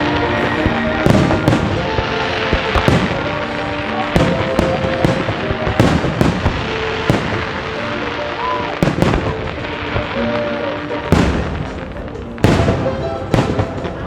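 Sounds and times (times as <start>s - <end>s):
fireworks bangs: 0.0s - 14.0s
music over loudspeakers: 0.0s - 14.0s.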